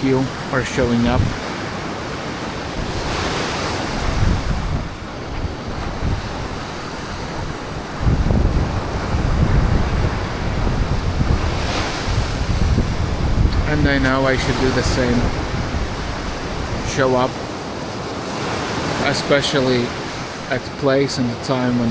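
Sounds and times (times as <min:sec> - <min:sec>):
wind buffeting microphone: 0:00.0 - 0:20.5
sea waves washing on shore: 0:00.0 - 0:21.9.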